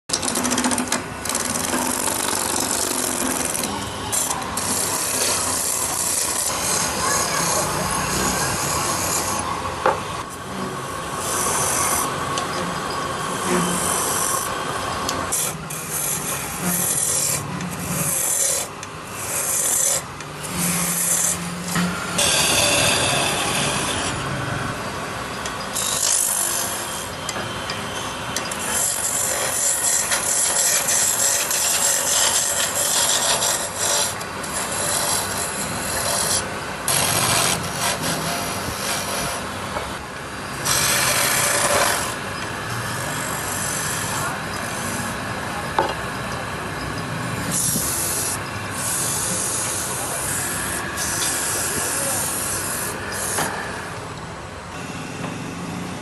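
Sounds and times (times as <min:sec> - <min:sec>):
lathe tool scraping wood: 0:00.1 - 0:24.7, 0:25.7 - 0:45.3, 0:46.8 - 0:54.0.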